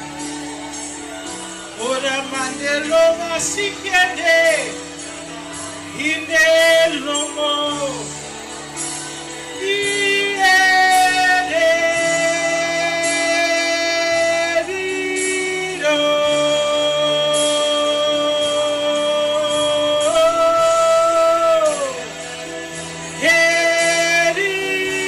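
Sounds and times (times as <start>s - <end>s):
person singing without words: 0.0s - 25.0s.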